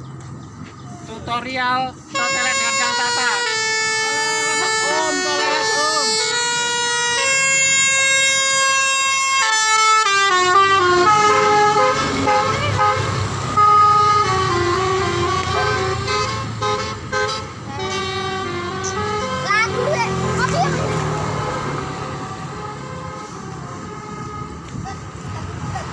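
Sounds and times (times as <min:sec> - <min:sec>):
bus air horn playing a tune: 0:02.1 - 0:20.3, 0:20.9 - 0:25.3.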